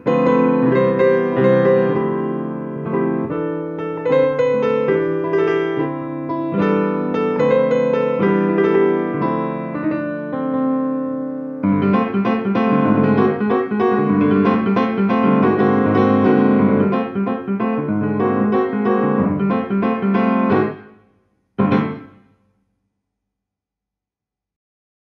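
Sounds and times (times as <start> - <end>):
piano chords and running notes: 0.0 - 21.0, 21.6 - 22.3.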